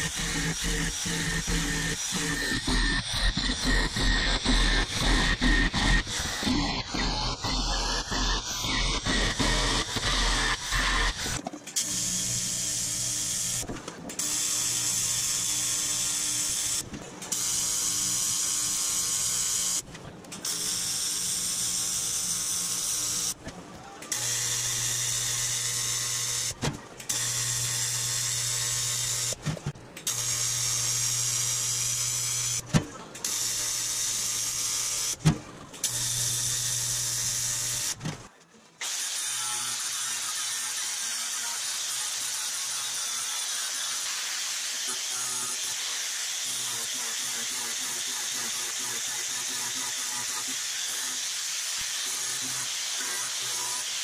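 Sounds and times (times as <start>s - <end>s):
welder arc buzzing: 0.0s - 19.8s, 20.4s - 23.4s, 24.1s - 29.4s, 30.1s - 32.7s, 33.3s - 35.2s, 35.9s - 38.0s, 39.0s - 54.0s.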